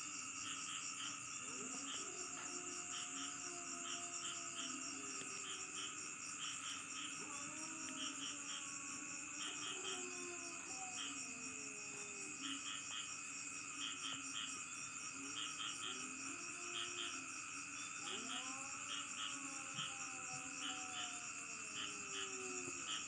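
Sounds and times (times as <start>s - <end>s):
crickets trilling: 0.0s - 23.0s
insect chirps: 0.0s - 23.0s
low gliding insect calls: 0.0s - 23.0s.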